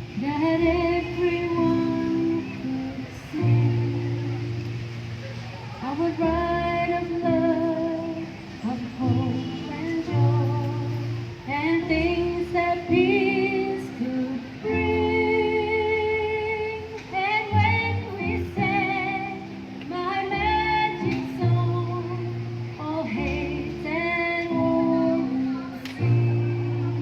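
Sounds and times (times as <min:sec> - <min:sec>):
woman singing: 0:00.0 - 0:04.9, 0:05.8 - 0:27.0.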